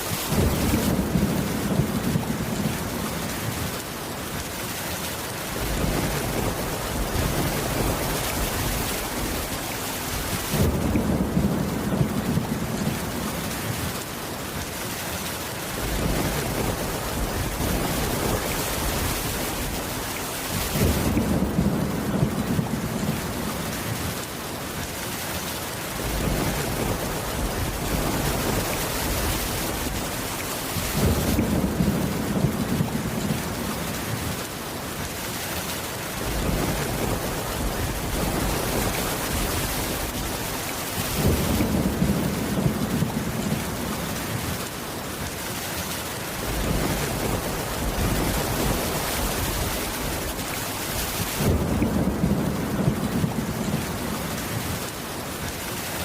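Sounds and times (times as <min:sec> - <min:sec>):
heavy rain: 0:00.0 - 0:56.0
thunder rumbling: 0:00.2 - 0:03.7, 0:05.6 - 0:14.0, 0:15.8 - 0:24.2, 0:26.0 - 0:34.5, 0:36.2 - 0:44.7, 0:46.4 - 0:54.8.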